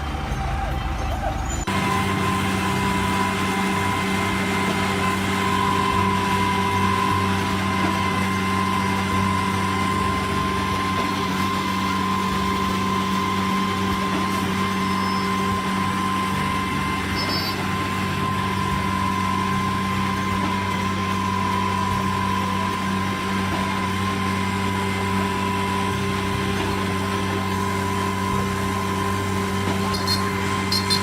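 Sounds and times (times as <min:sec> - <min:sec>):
constant whine: 0:00.0 - 0:31.0
truck engine running: 0:00.0 - 0:31.0.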